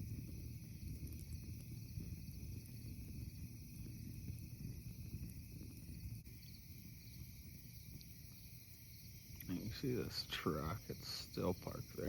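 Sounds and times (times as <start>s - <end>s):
insects chirping: 0.0s - 12.0s
low uneven rumble: 0.0s - 12.0s.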